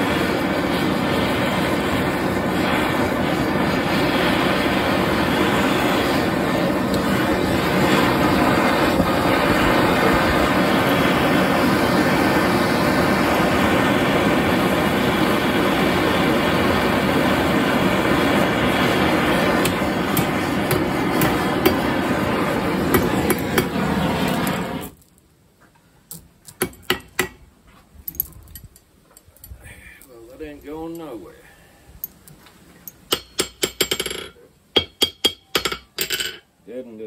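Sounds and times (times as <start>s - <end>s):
torch flame burning: 0.0s - 25.2s, 29.4s - 34.9s.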